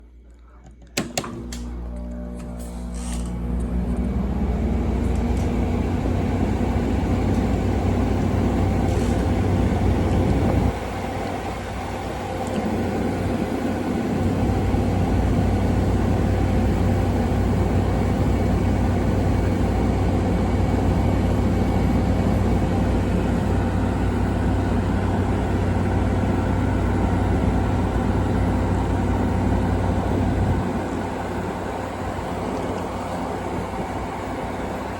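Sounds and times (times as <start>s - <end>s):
window air conditioner hum: 0.0s - 34.9s
fan rush: 1.0s - 34.9s.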